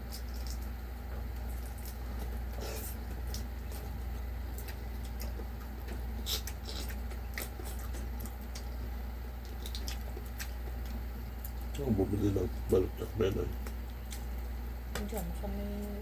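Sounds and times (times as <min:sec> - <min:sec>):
chewing and biting: 0:00.0 - 0:14.6.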